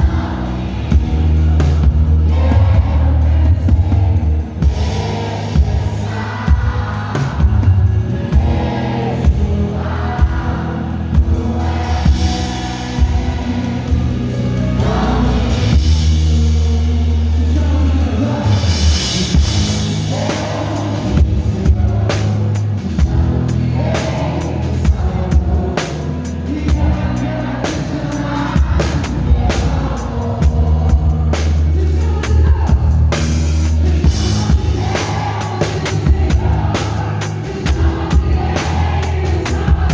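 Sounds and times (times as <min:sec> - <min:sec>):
deep bass notes: 0:00.0 - 0:39.9
drum kit: 0:00.0 - 0:39.9
live worship band: 0:00.0 - 0:39.9.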